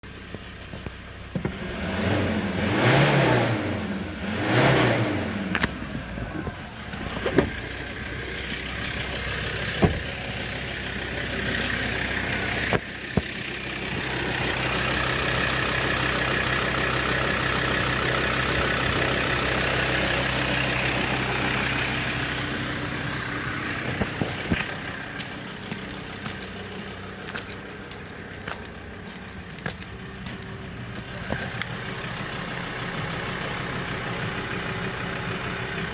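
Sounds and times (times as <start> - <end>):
diesel engine revving and idling: 0.0 - 35.9.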